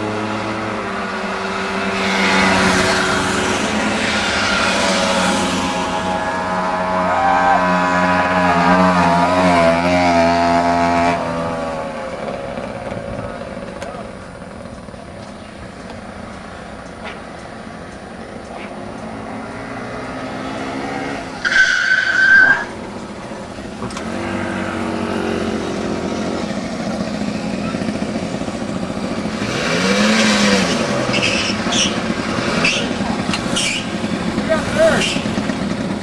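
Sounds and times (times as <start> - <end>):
moped engines revving past: 0.0 - 36.0.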